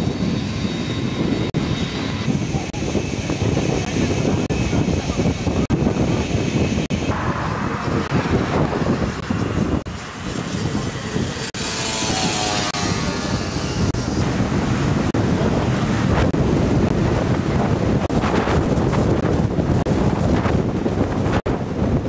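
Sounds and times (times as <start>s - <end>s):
jet airliner rumble: 0.0s - 22.0s
wind buffeting microphone: 0.0s - 22.0s.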